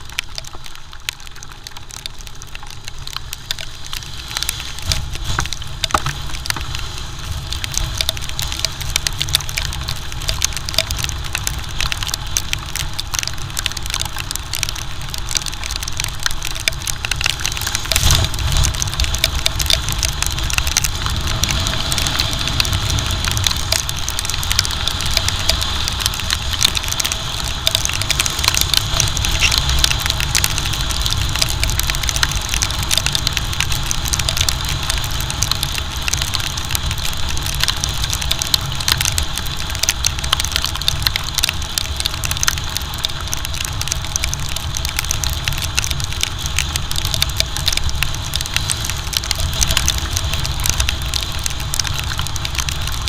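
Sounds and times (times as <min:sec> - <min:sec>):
raindrops crackling on camera: 0:00.0 - 0:53.0
wind rushing over camera: 0:00.0 - 0:53.0.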